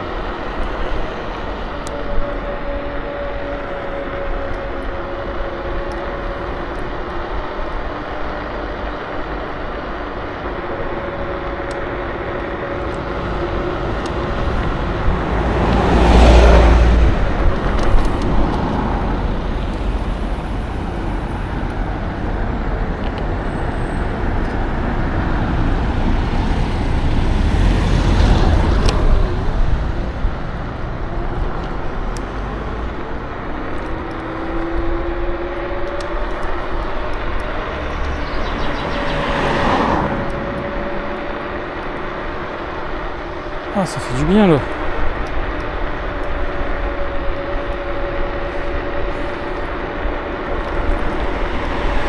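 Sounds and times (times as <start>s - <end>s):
wind and road noise: 0.0s - 52.0s.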